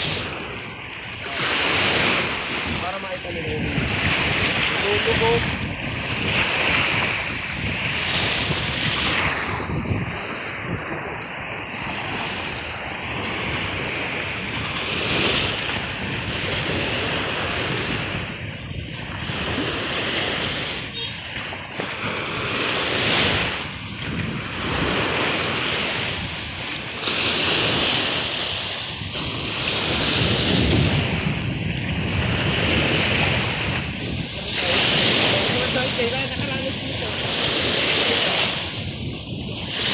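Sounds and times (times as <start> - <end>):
waves washing against shore: 0.0 - 39.9
wind buffeting microphone: 0.0 - 39.9.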